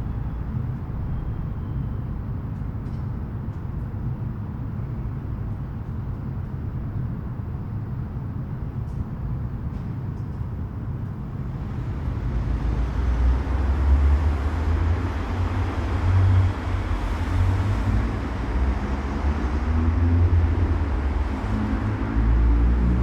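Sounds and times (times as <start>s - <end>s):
car engine low rumble: 0.0s - 23.0s.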